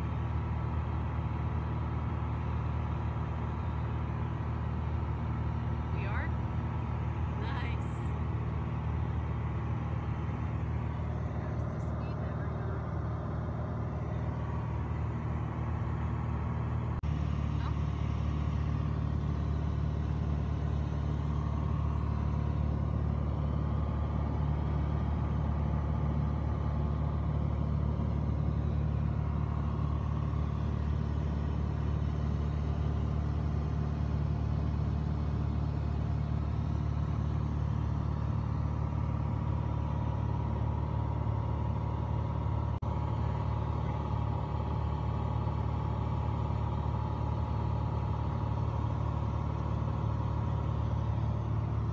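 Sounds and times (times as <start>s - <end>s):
aircraft engine and propeller drone: 0.0s - 51.9s.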